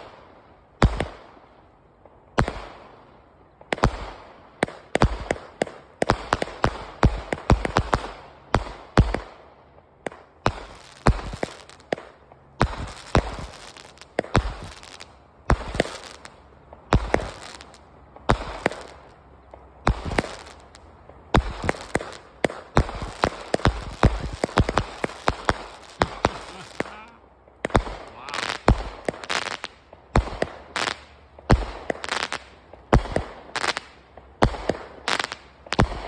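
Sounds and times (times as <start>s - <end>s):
firework bangs: 0.8s - 1.3s, 3.6s - 36.0s.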